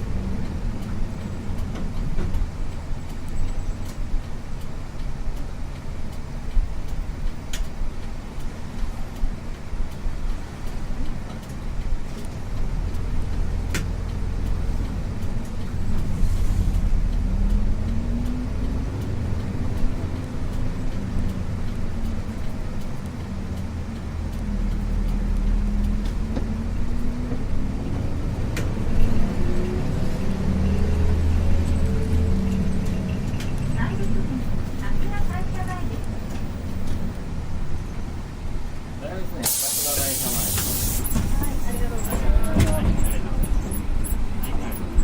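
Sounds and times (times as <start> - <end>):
bus diesel engine accelerating: 0.0 - 45.0.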